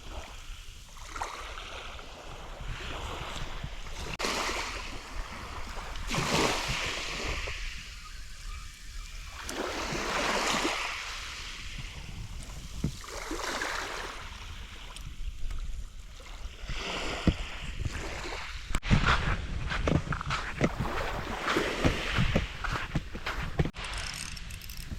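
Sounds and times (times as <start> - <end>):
small waves washing on sandy beach: 0.0 - 23.8.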